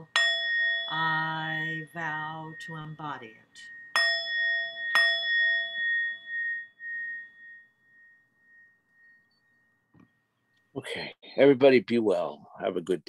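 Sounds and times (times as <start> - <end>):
meditation bell ringing: 0.0 - 10.7.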